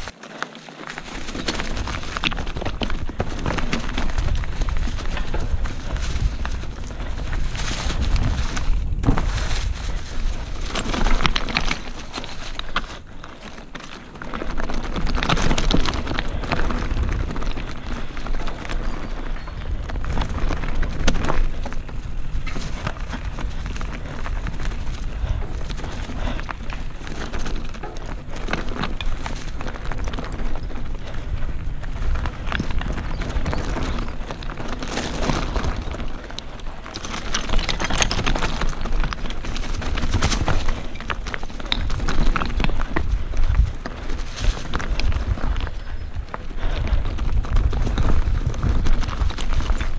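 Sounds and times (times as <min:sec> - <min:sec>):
bike tyres crunching over stones: 0:00.0 - 0:49.9.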